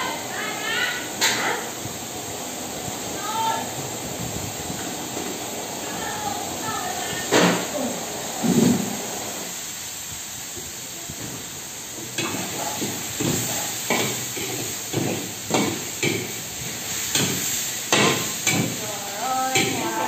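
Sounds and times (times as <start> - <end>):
steady hiss of steaming wok: 0.0 - 20.0.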